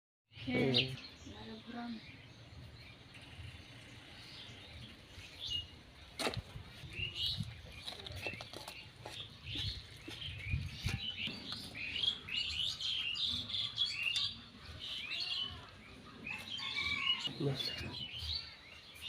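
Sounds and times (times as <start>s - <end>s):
birds chirping: 0.3s - 19.0s.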